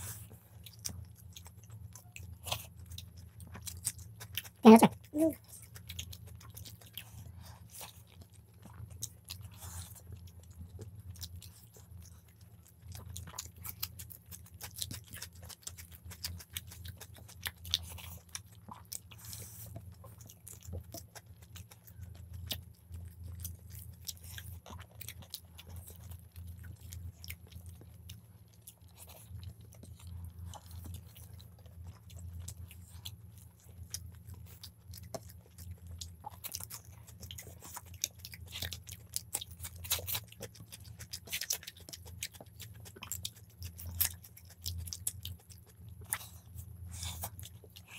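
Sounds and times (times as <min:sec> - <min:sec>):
people chewing and biting: 0:00.0 - 0:47.9.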